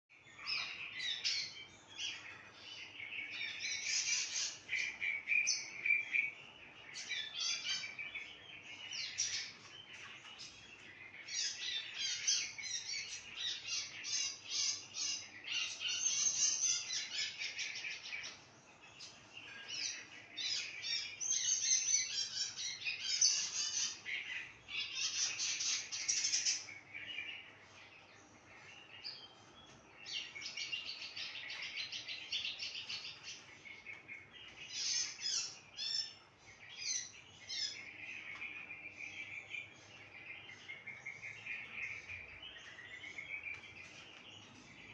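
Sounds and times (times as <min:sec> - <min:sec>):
small birds chirping and twittering: 0:00.0 - 0:44.9.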